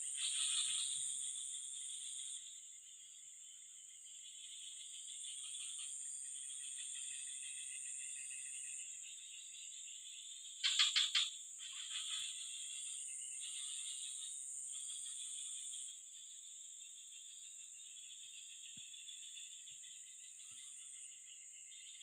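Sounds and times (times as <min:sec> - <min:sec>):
insect buzz: 0:00.1 - 0:22.0
pulsing insect trill: 0:00.1 - 0:22.0.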